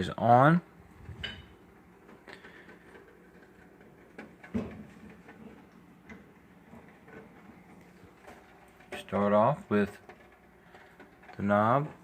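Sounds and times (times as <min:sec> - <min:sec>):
low steady hum: 0:00.0 - 0:12.0
faint clicks and knocks: 0:00.8 - 0:12.0.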